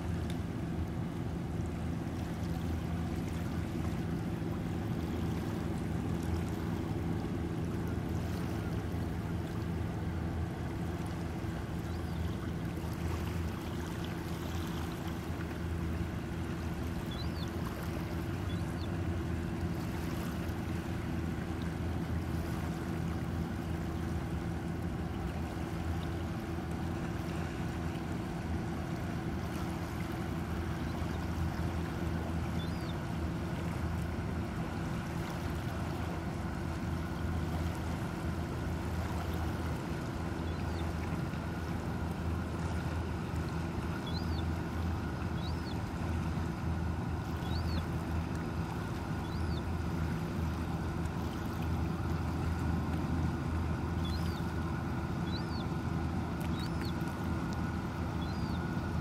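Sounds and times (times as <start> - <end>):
low motor drone: 0.0 - 59.0.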